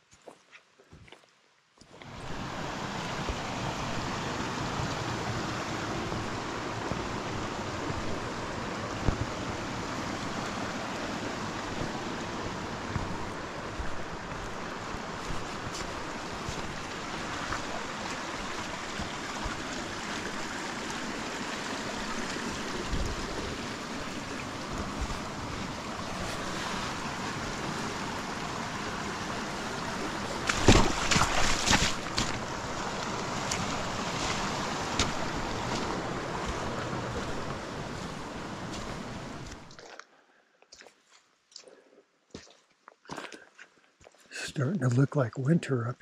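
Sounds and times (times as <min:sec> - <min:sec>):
creek running over rocks: 0:00.0 - 0:40.1, 0:40.7 - 0:45.9.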